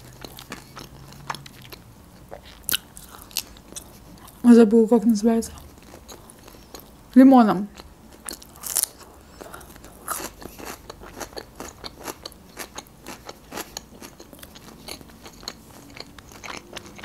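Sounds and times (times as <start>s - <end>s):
crunchy chewing of cucumber: 0.0s - 4.4s, 7.8s - 17.0s.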